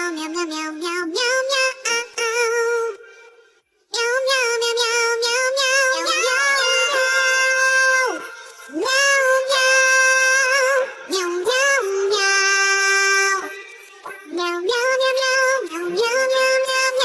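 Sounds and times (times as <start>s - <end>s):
synthetic singing voice: 0.0s - 3.3s, 3.9s - 17.0s.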